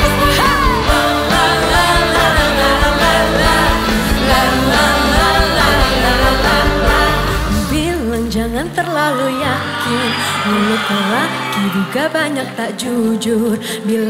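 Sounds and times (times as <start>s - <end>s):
live pop music with heavy bass: 0.0s - 13.6s
women singing: 0.0s - 14.0s.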